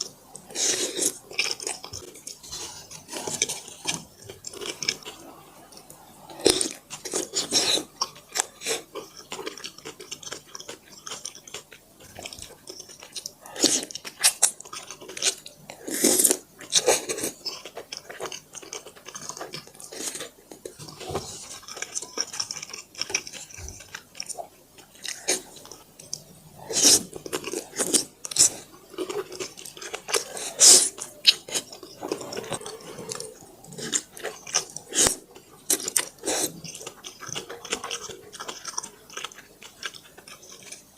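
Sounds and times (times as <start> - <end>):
chewing with mouth clicks: 0.0 - 40.9.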